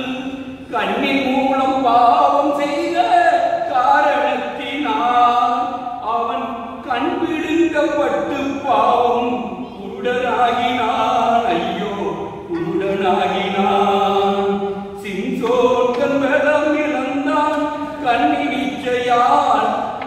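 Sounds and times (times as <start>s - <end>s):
man singing into microphone: 0.0s - 20.0s.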